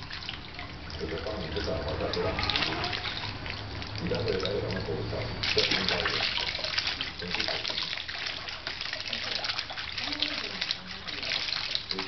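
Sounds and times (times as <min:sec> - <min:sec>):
bath water splashing and trickling: 0:00.0 - 0:12.0.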